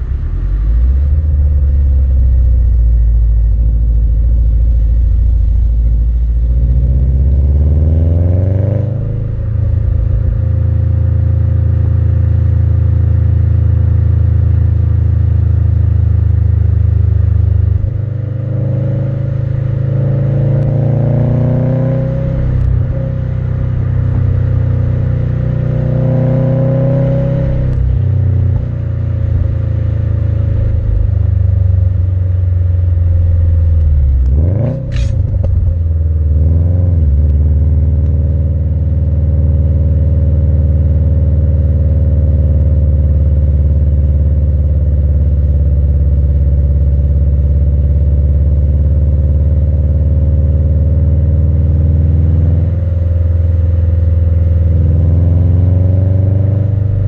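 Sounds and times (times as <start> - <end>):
car exhaust while driving: 0.0 - 57.0.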